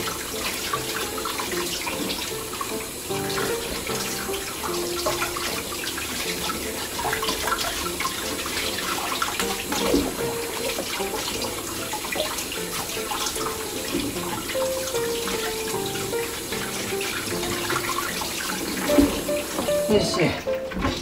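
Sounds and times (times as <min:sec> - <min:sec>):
small water splashes: 0:00.0 - 0:21.0
tap running into sink: 0:00.0 - 0:21.0.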